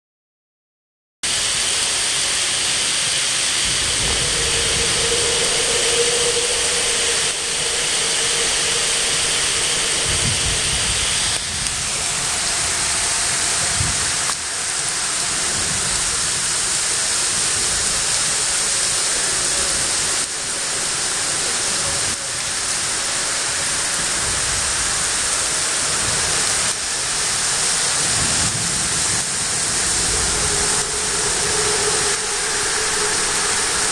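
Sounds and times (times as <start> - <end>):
heavy rain on a lake: 1.2 - 33.9.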